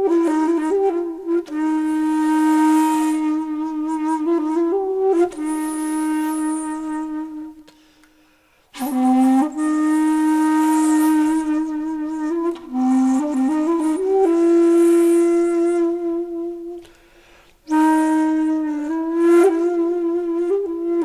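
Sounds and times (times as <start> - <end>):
flute playing long held notes: 0.0 - 7.8, 8.8 - 17.0, 17.6 - 21.0.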